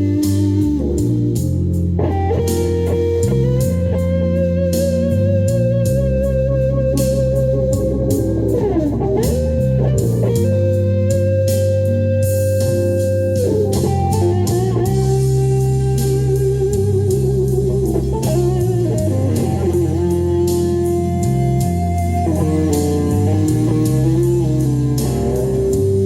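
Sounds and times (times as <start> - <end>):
backing track of bass and drums: 0.0 - 26.0
lead guitar melody with vibrato: 0.0 - 26.0.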